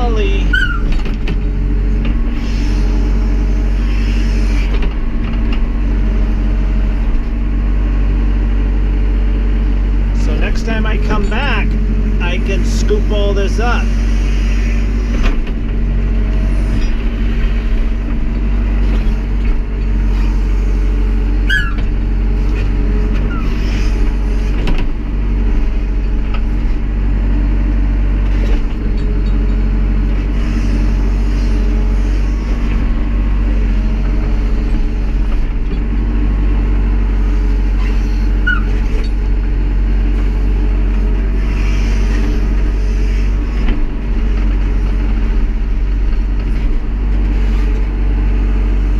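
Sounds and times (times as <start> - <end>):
backhoe engine running: 0.0 - 48.9.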